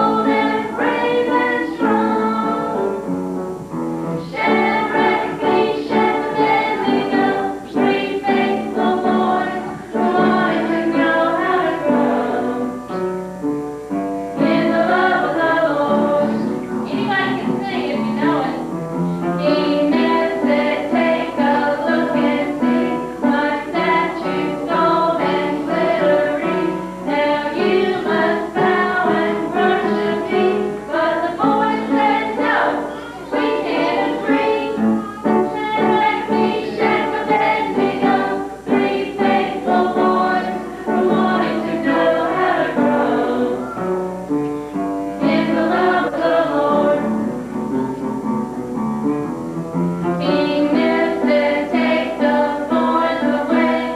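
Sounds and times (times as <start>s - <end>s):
group singing: 0.0s - 3.1s, 4.2s - 13.0s, 14.4s - 18.6s, 19.4s - 44.0s, 45.1s - 47.5s, 50.2s - 53.9s.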